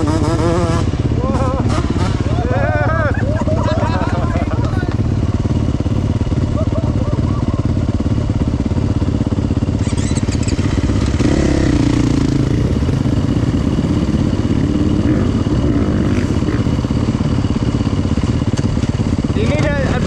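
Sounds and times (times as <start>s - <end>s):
motocross bike engine idling: 0.0s - 20.0s.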